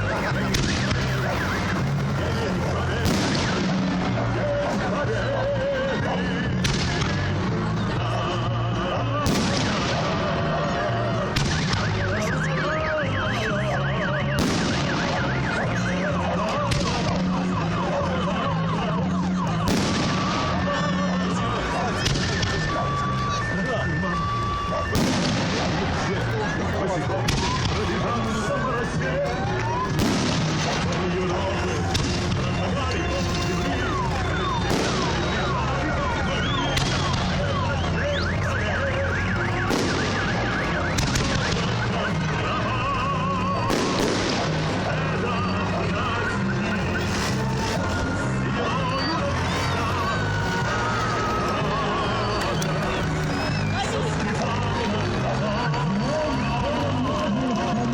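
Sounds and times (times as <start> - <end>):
fireworks bangs: 0.0 - 5.0, 6.4 - 8.0, 9.2 - 17.9, 18.7 - 23.0, 24.2 - 55.0
car alarm warbling: 0.0 - 57.8.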